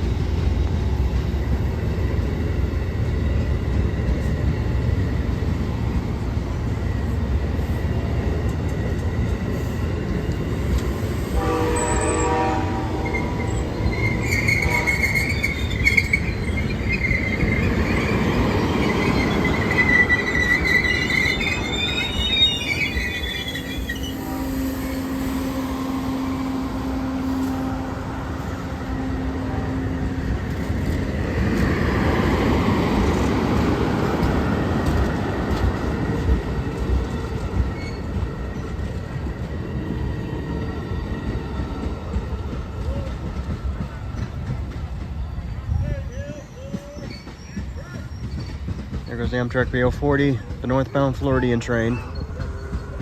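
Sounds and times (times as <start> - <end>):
train cars running over track: 0.0 - 53.0
train wheels squealing on rails: 8.7 - 28.9, 30.2 - 53.0.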